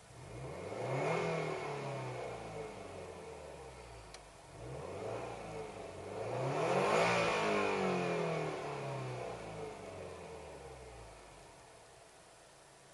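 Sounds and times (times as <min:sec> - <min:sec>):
car engine revving: 0:00.1 - 0:11.7.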